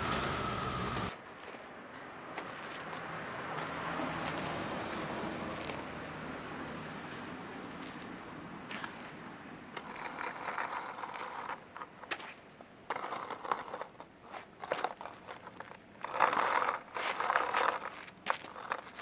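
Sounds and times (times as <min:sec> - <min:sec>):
skateboard wheels rolling on pavement: 0:00.0 - 0:06.4, 0:07.1 - 0:19.0.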